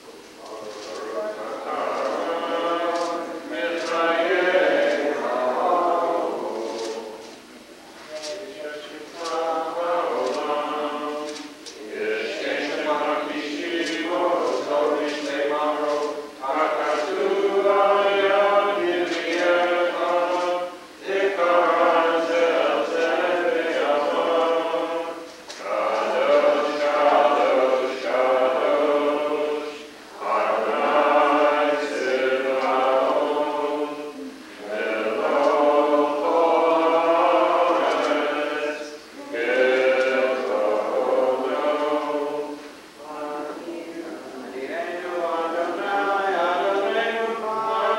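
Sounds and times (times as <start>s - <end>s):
congregation singing a prayer: 0.0s - 47.9s.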